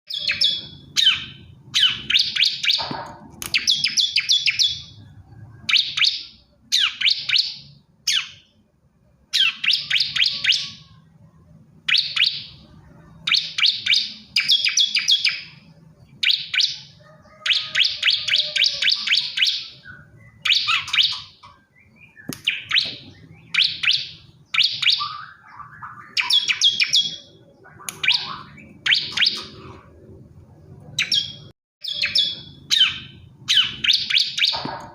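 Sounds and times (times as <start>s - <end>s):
bird singing buzzy chirps: 0.1s - 2.8s, 3.5s - 30.0s, 30.7s - 34.7s.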